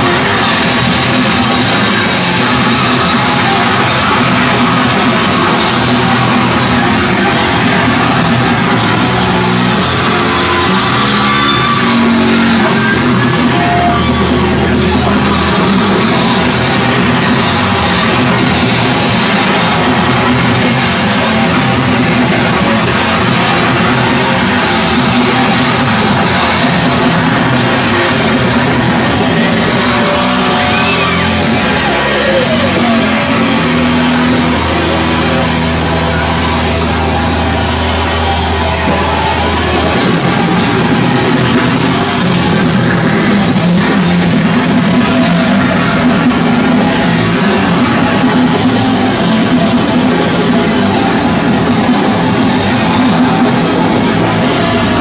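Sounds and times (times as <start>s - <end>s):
loud rock music with guitar: 0.0s - 55.0s.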